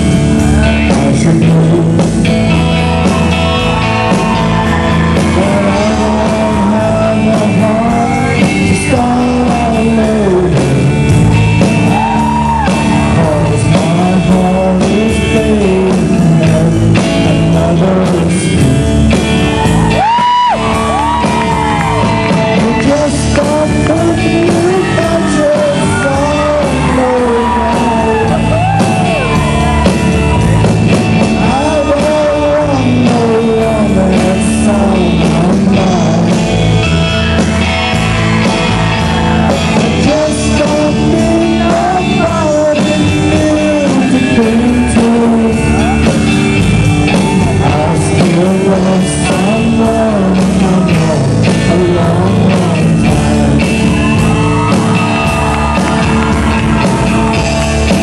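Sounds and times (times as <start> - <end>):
man singing: 0.0 - 30.0, 31.2 - 58.0
drums: 0.0 - 58.0
electric guitar: 0.0 - 58.0.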